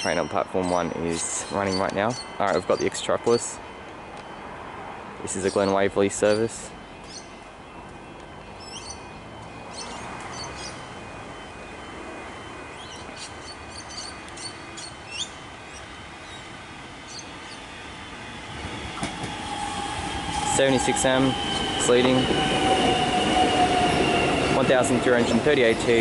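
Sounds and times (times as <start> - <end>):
birds chirping: 0.0 - 26.0
electric train rumble and hum: 0.0 - 26.0.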